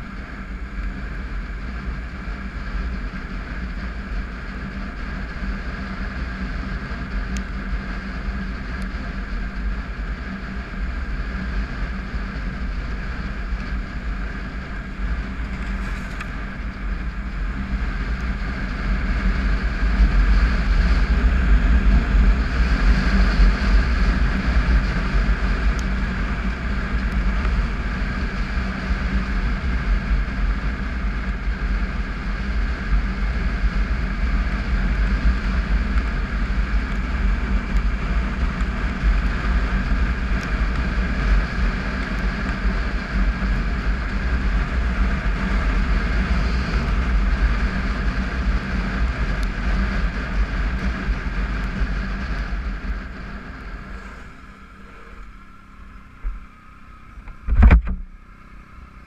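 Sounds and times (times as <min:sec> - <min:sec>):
motorcycle engine running: 0:00.0 - 0:59.0
road rumble on gravel: 0:00.0 - 0:59.0
wind: 0:00.0 - 0:59.0.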